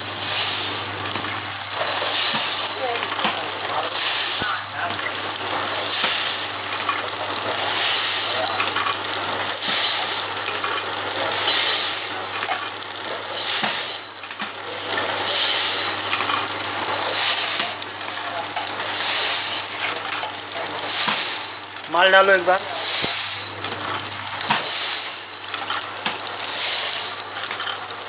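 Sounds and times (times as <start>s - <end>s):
machine low hum: 0.0s - 28.0s
packing machine hissing bursts: 0.0s - 28.0s.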